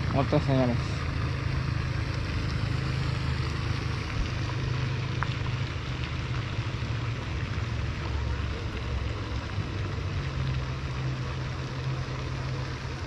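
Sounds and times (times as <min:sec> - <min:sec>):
fountain spray hissing: 0:00.0 - 0:13.0
low steady rumble: 0:00.0 - 0:13.0.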